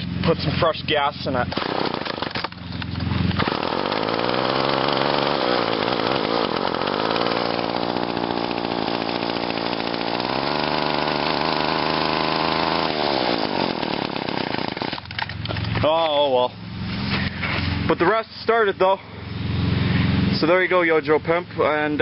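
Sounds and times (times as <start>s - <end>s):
string trimmer engine running rough: 0.0s - 22.0s.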